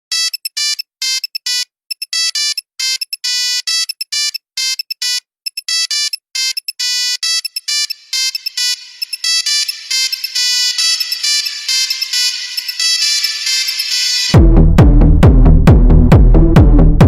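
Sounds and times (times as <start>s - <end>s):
electronic ringtone beeps: 0.1s - 14.4s.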